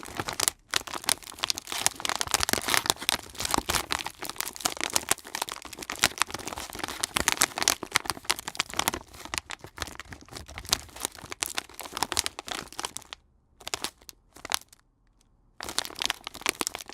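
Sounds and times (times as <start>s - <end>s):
plastic package crinkling: 0.0s - 14.8s, 15.6s - 16.9s.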